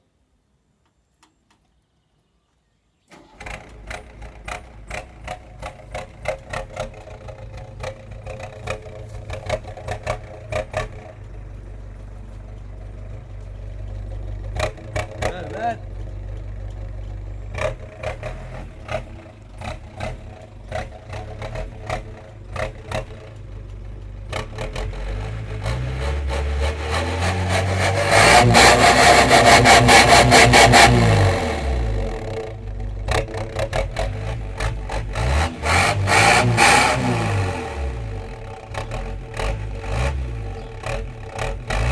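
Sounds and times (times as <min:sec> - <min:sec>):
van engine idling and revving: 0:03.1 - 0:41.9.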